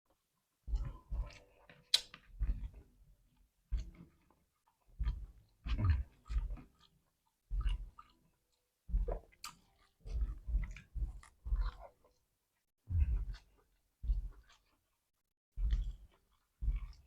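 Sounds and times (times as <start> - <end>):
close-up wet chewing: 0.7 - 17.0.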